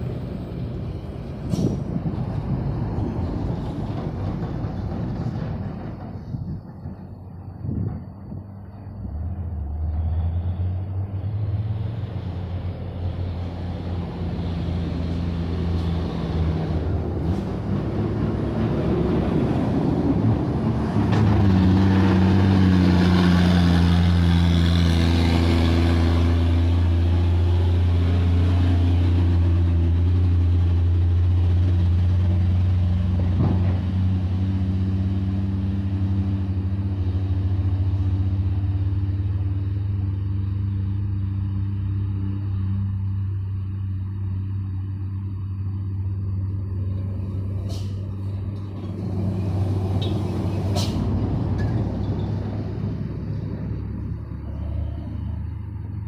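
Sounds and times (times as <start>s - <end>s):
road noise: 0.0s - 56.0s
truck diesel engine under load: 0.0s - 56.0s.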